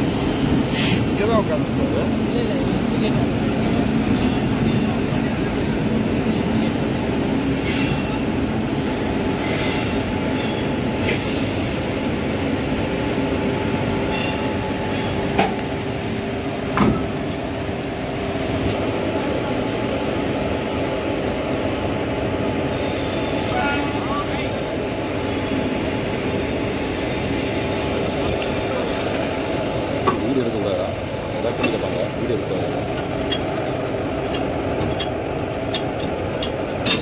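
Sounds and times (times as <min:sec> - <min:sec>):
electric locomotive humming and rumbling: 0:00.0 - 0:37.0.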